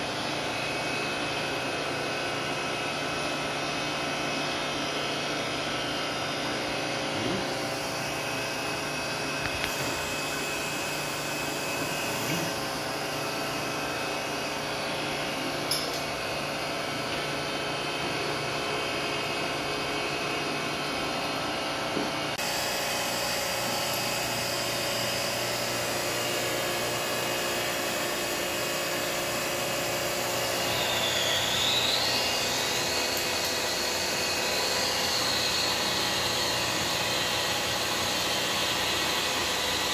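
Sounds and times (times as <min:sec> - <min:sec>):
surface grinder machine whine: 0:00.0 - 0:39.9.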